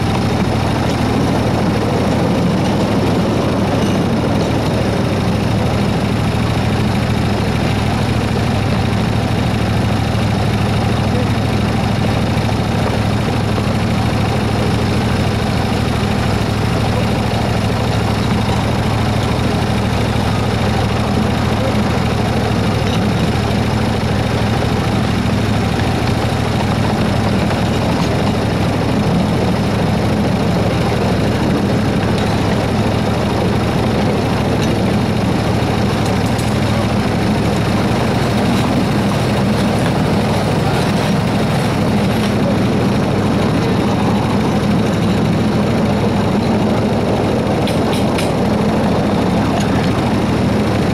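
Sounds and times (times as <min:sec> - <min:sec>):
miniature locomotive engine running: 0:00.0 - 0:50.9.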